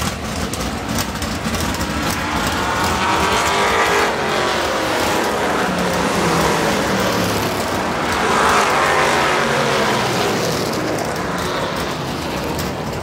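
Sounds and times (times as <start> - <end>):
race car engines: 0.0 - 13.0.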